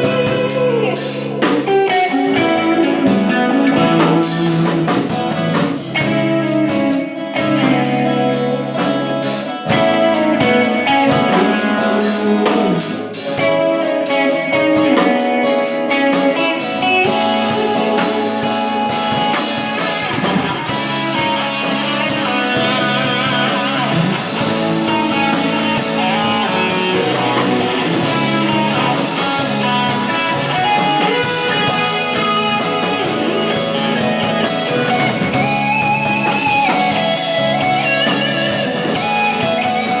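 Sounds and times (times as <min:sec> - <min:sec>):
electric guitar playing blues phrases: 0:00.0 - 0:40.0.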